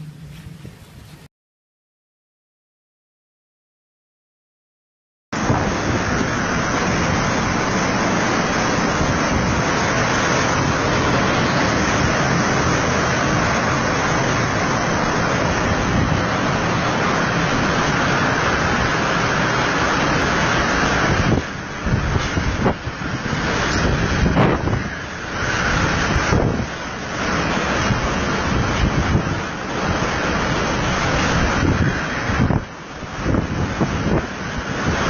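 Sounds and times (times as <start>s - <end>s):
strong wind blowing: 0.0s - 1.3s, 5.4s - 35.0s.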